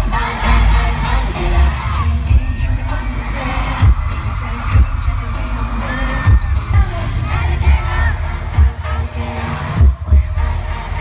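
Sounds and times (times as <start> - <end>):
heavy bass drum beats: 0.0 - 11.0
pop concert music: 0.0 - 11.0
voices singing: 0.0 - 11.0.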